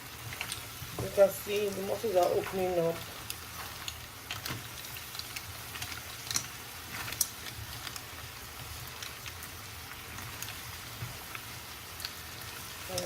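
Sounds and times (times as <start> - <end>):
crackles and pops: 0.0 - 13.0
mussels sizzling in a wok: 0.0 - 13.0.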